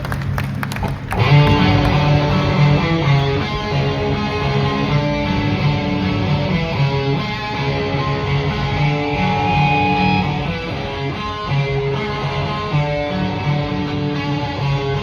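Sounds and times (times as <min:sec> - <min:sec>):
live band playing: 0:00.6 - 0:13.4
ringing guitar notes: 0:01.1 - 0:15.0.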